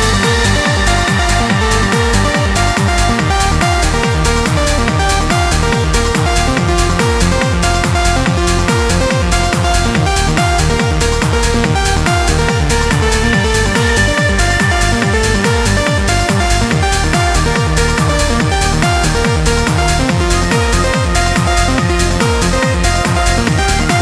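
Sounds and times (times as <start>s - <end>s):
electronic dance music: 0.0s - 24.0s.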